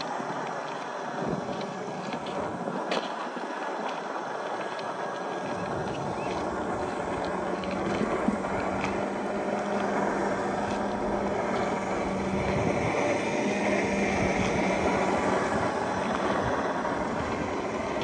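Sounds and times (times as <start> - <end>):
rc car driving on gravel: 0.0 - 18.0
steady hum: 0.0 - 18.0.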